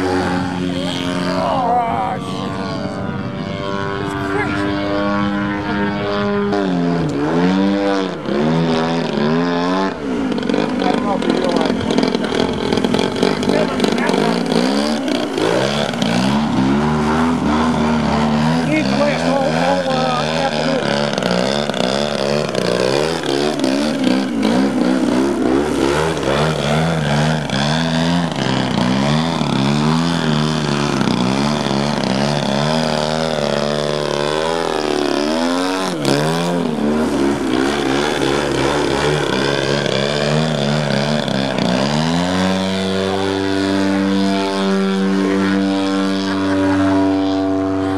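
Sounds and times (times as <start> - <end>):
model airplane engine and propeller: 0.0 - 47.9.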